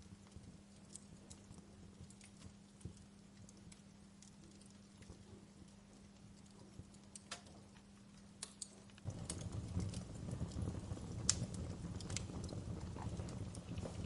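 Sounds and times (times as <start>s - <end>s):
faint steady hum: 0.0s - 14.0s
wood fire crackling: 0.0s - 14.0s.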